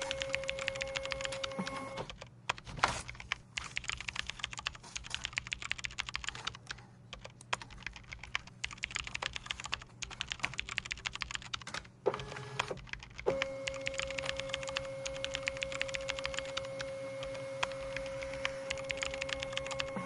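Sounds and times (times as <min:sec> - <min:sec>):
fast typing on keyboard: 0:00.0 - 0:20.0
low office hum: 0:00.0 - 0:20.0.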